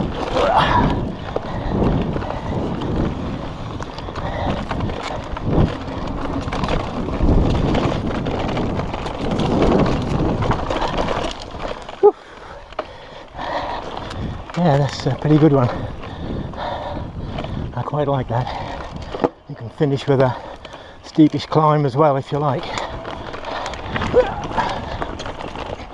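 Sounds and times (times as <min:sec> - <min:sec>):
bike rattling and knocking: 0:00.0 - 0:25.9
tyres rolling over dirt: 0:00.0 - 0:25.9.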